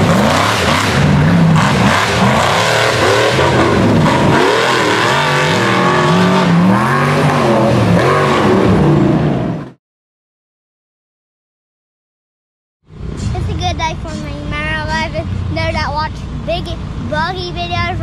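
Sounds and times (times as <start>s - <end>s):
buggy engine revving: 0.0s - 9.8s, 12.9s - 18.0s.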